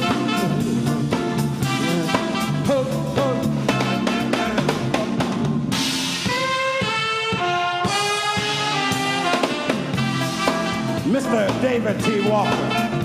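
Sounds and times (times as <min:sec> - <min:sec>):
bass line: 0:00.0 - 0:13.0
drum kit beat: 0:00.0 - 0:13.0
horn section holding chords: 0:00.0 - 0:13.0.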